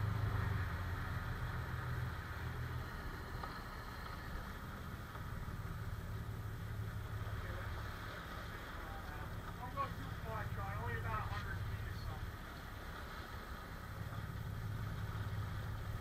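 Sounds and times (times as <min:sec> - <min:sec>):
boat engine droning: 0:00.0 - 0:16.0
wake washing: 0:00.0 - 0:16.0
wind: 0:00.0 - 0:16.0.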